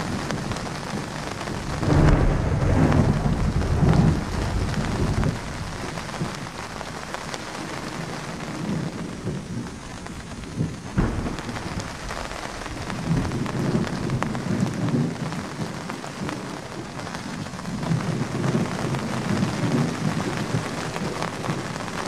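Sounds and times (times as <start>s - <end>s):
steady rain: 0.0s - 22.0s
thunder rumbling: 0.0s - 22.0s.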